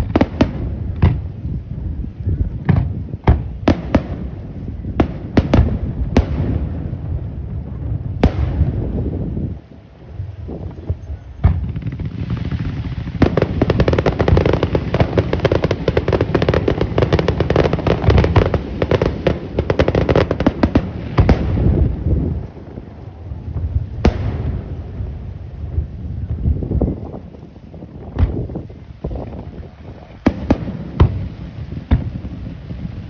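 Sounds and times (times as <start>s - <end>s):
firework bangs: 0.0s - 33.0s
fireworks crackling: 0.0s - 33.0s
low rumble: 0.0s - 33.0s.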